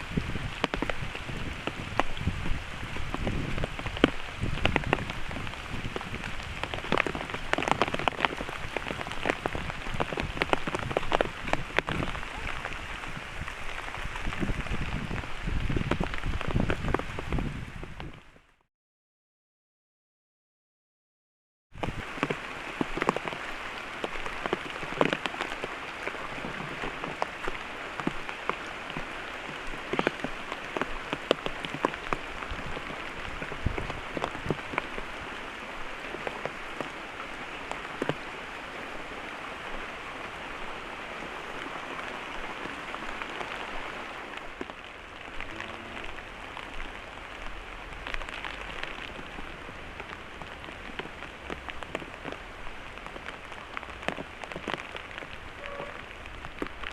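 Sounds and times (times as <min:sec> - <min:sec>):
raindrop impacts: 0:00.0 - 0:18.3, 0:21.8 - 0:56.9
heavy rain falling: 0:00.0 - 0:18.6, 0:21.8 - 0:56.9.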